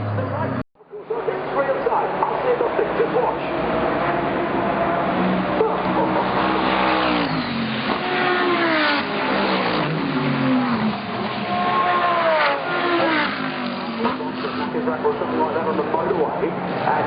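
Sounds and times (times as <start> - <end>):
race car engine at high revs: 1.7 - 17.0.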